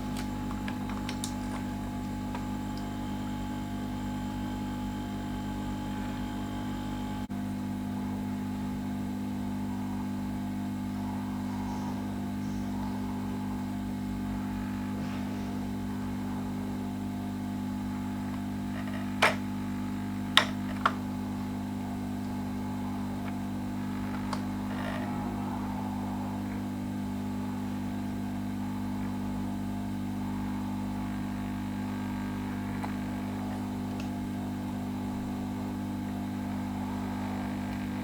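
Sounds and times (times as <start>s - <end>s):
soldering gun humming: 0.0s - 38.0s.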